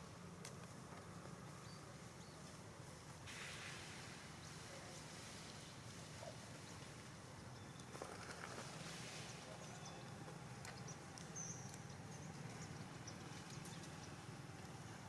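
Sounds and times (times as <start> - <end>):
light hiss: 0.0 - 12.6.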